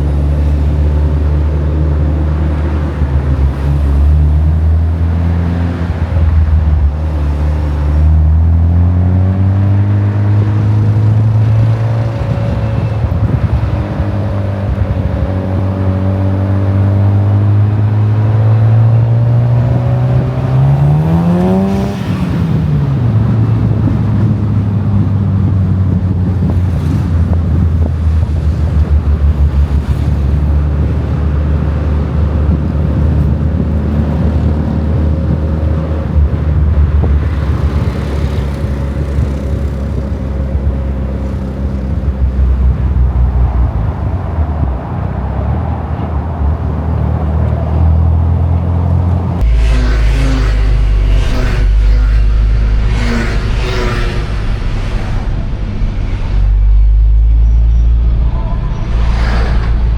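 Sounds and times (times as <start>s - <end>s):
sports car engine accelerating: 0.0s - 45.4s, 46.7s - 59.9s.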